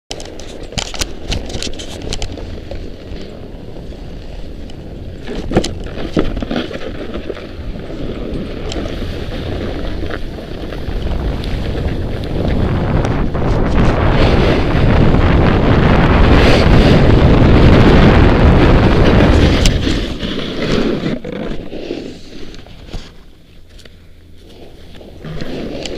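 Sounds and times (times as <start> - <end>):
wind buffeting microphone: 0.1 - 21.2
snowboard scraping over snow: 0.2 - 25.9.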